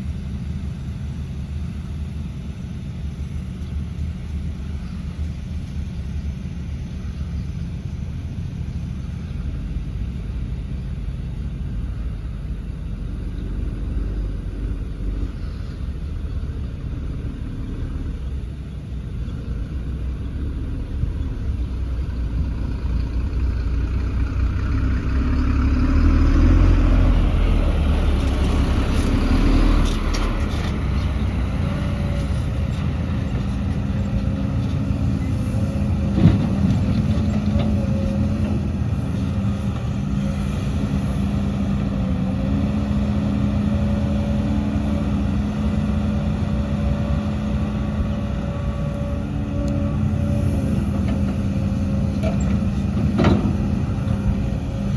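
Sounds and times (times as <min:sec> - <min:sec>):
heavy diesel machinery engine running: 0:00.0 - 0:54.9.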